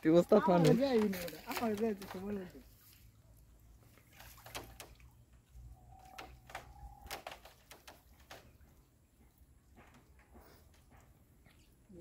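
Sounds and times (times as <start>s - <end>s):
water splashes and drips: 0.0s - 12.0s.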